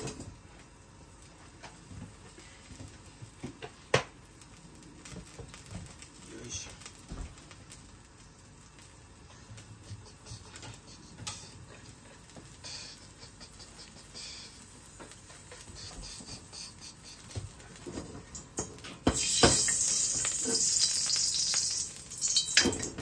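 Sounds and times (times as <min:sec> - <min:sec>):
food sizzling in hot oil: 0:00.0 - 0:23.0
oil crackling in a wok: 0:00.0 - 0:23.0.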